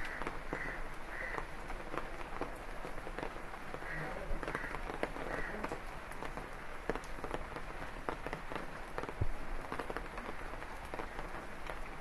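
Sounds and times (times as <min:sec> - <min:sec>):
rain dripping on wet leaves: 0:00.0 - 0:12.0.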